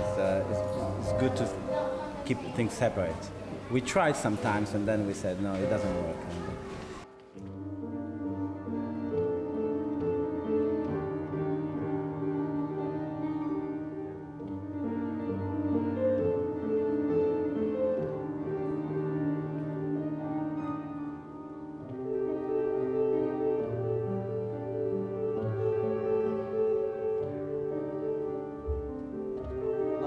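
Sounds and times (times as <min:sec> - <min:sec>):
grand piano slow piece: 0:00.0 - 0:30.0.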